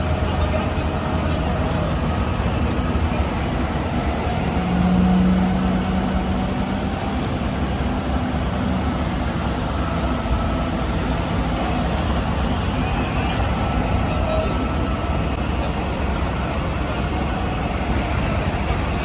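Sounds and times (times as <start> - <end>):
diesel construction equipment rumbling: 0.0 - 19.0.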